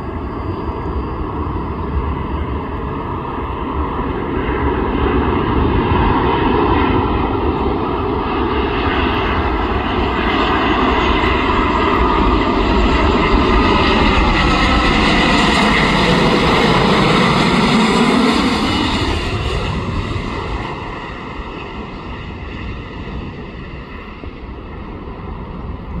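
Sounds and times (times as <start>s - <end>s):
jet airliner engines: 0.0s - 26.0s.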